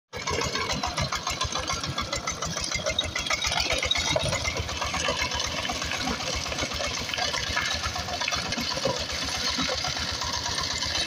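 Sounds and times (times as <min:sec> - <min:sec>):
diesel engine knocking steadily: 0:00.1 - 0:11.0.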